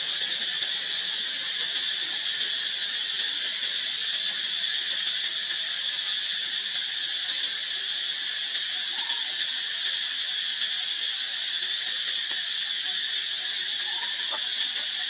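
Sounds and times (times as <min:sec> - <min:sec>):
high-pitched hissing drone: 0:00.0 - 0:15.0.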